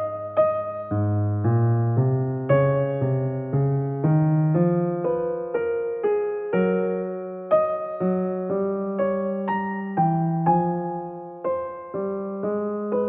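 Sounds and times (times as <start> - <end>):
soft electric piano chords: 0.0 - 13.0.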